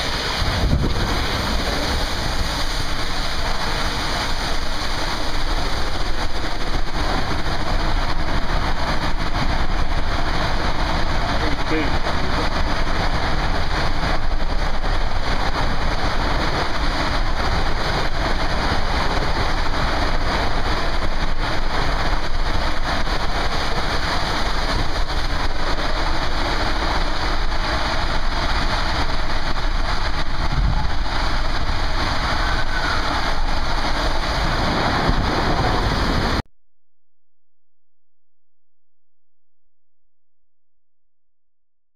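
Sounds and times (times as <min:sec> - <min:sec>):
water rushing and splashing: 0:00.0 - 0:36.4.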